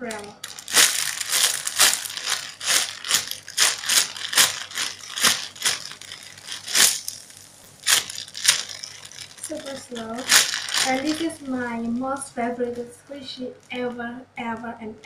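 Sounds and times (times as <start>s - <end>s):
plastic bag crinkling: 0.0s - 14.7s.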